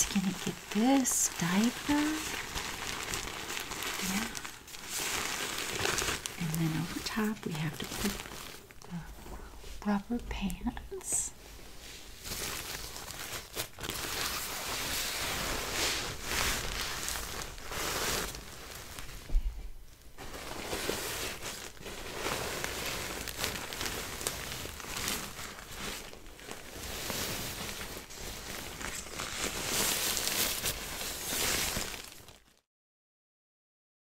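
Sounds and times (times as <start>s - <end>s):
plastic diaper crinkling: 0.0s - 11.4s, 12.1s - 19.4s, 20.2s - 32.6s.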